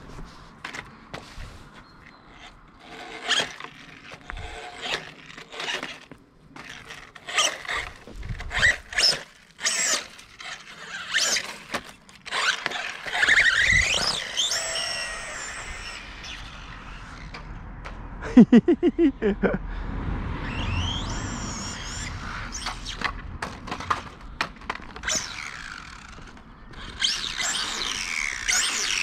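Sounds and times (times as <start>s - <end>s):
rc car motor and tyre bursts: 0.6s - 17.6s, 20.3s - 29.0s
high squealing motor whine: 1.8s - 17.7s, 20.2s - 23.8s, 24.9s - 29.0s.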